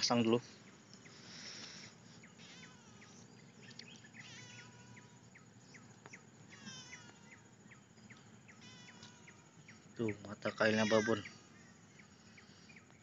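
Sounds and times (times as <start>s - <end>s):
bird warbling: 0.0s - 13.0s
birds chirping: 0.0s - 13.0s
insect hum: 0.0s - 13.0s.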